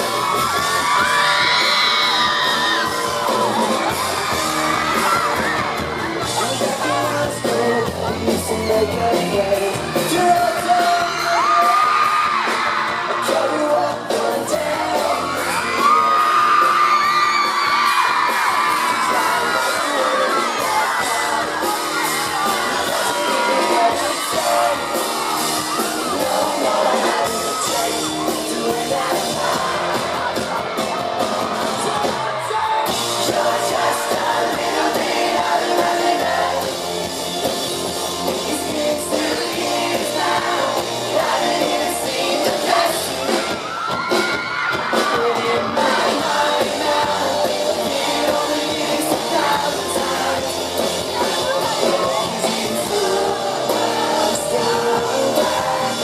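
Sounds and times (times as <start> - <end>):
fans yelling and whooping: 0.0 - 56.0
live pop-rock band: 0.0 - 56.0.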